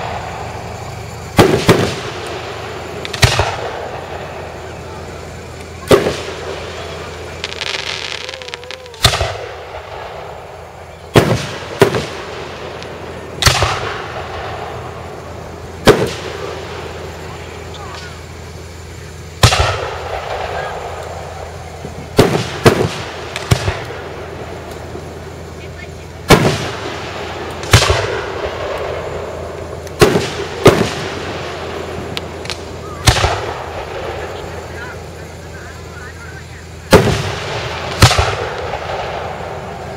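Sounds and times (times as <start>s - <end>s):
firework shells bursting: 0.0s - 39.9s.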